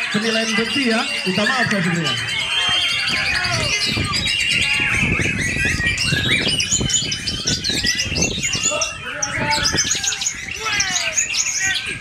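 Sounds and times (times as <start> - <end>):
many birds singing: 0.0 - 12.0.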